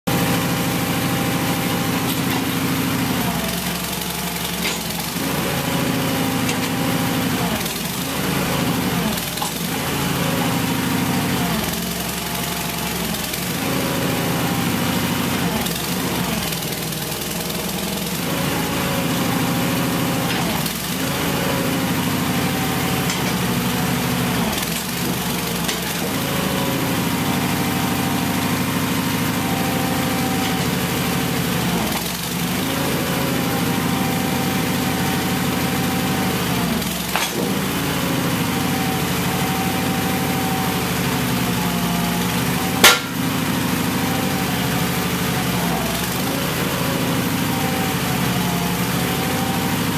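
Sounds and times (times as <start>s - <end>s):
hydraulic pump running: 0.1s - 49.9s.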